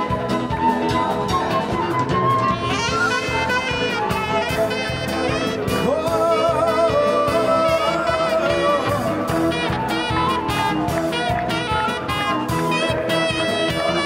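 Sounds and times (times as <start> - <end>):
brass melody: 0.0 - 14.0
music with steady beat: 0.0 - 14.0.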